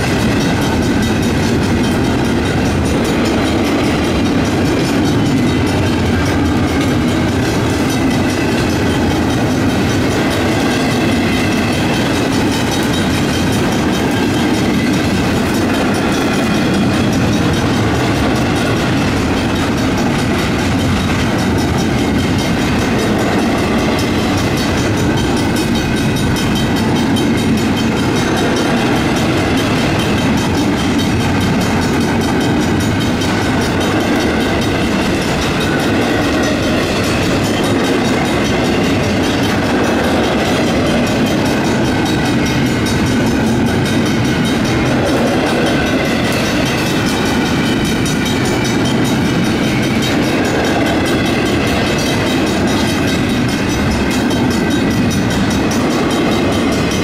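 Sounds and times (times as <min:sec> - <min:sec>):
crossing bells ringing: 0:00.0 - 0:57.0
train wheels on rails: 0:00.0 - 0:57.0
wheels clacking over rail joints: 0:00.0 - 0:57.0.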